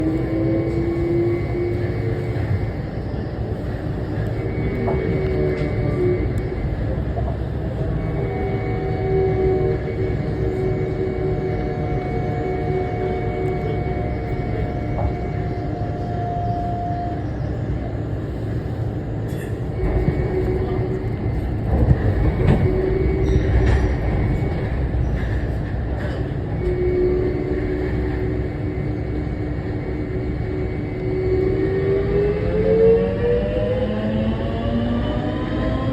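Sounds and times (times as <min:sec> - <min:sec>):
train running gear rumble: 0:00.0 - 0:35.9.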